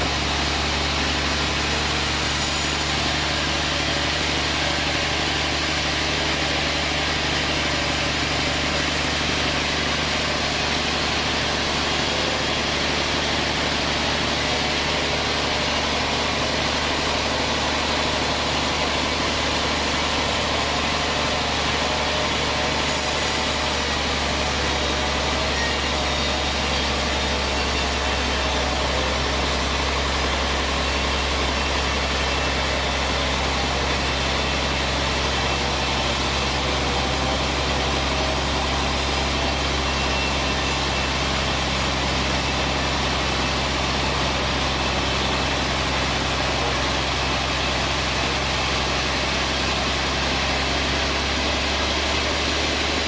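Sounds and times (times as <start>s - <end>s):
band sawmill running: 0.0s - 53.0s.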